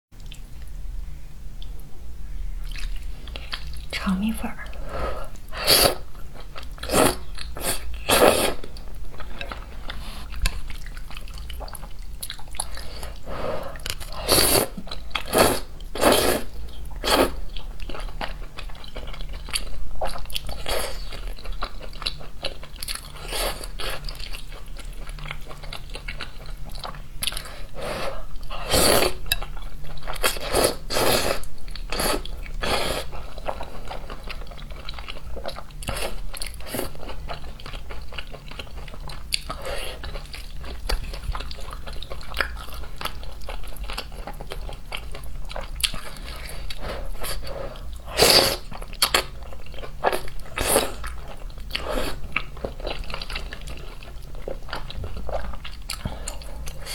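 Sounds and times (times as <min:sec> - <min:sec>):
person chewing with crisp crunches: 0:02.6 - 0:04.0, 0:04.7 - 0:56.9.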